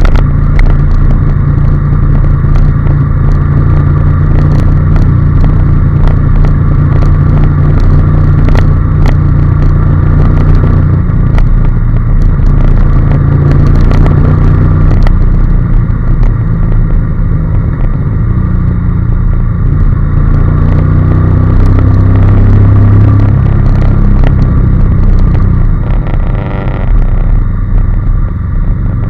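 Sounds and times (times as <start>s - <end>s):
motorcycle engine running: 0.0s - 29.0s
riding wind noise: 0.0s - 29.0s.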